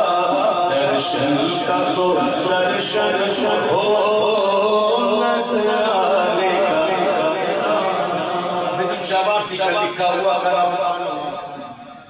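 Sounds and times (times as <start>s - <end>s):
man chanting unaccompanied: 0.0s - 12.0s.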